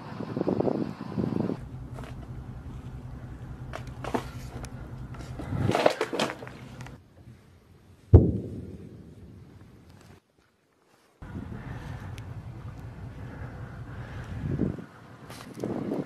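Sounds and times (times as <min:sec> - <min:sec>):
low steady hum: 0:01.3 - 0:10.2, 0:11.2 - 0:16.0.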